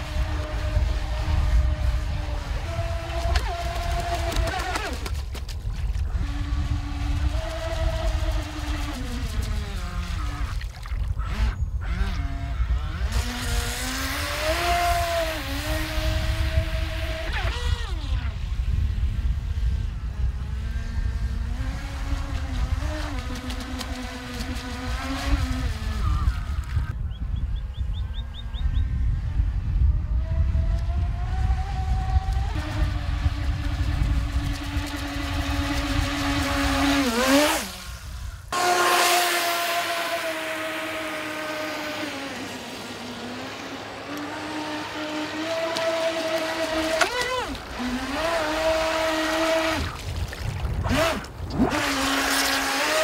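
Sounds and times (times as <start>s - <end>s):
electric motor whine: 0.0s - 5.1s, 6.0s - 27.0s, 27.7s - 53.0s
wind rumble on microphone: 0.0s - 53.0s.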